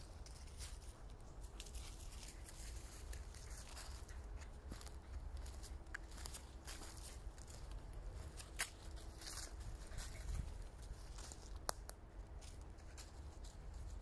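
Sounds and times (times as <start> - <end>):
footsteps in dry leaves: 0.0 - 14.0.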